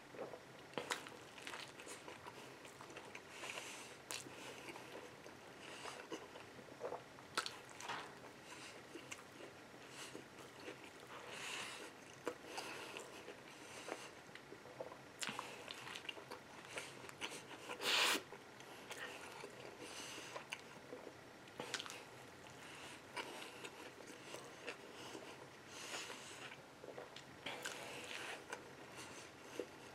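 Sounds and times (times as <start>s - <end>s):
person chewing food: 0.1s - 29.9s.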